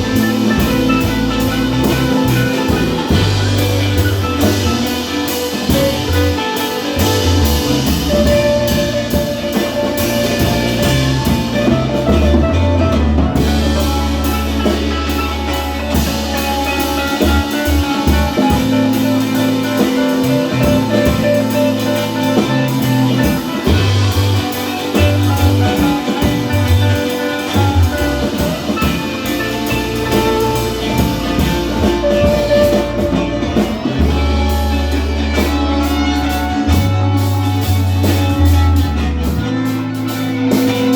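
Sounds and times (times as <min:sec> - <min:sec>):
jazzy instrumental band: 0:00.0 - 0:40.9.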